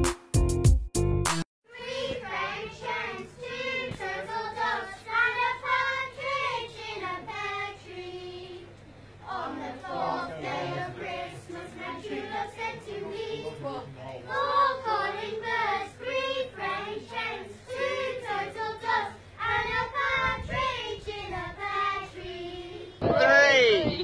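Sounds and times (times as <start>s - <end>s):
children and adults singing: 1.7s - 23.4s.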